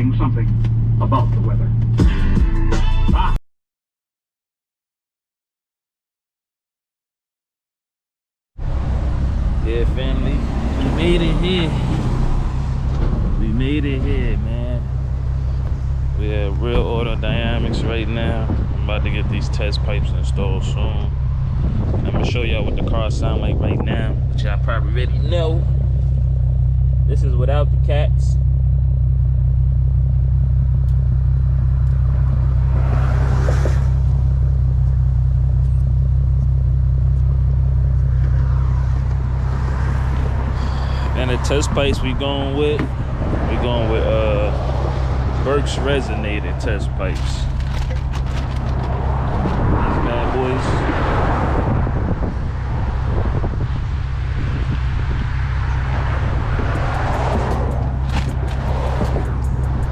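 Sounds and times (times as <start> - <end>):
car engine idling: 0.0 - 2.2, 8.6 - 59.9.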